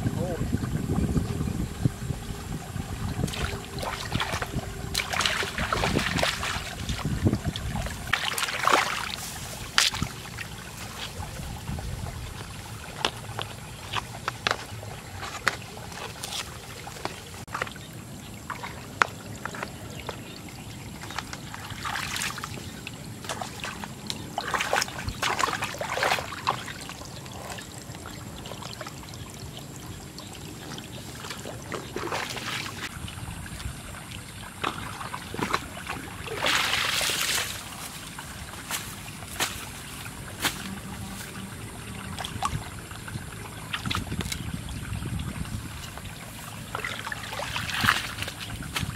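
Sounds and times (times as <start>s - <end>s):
muddy water trickling: 0.0s - 48.9s.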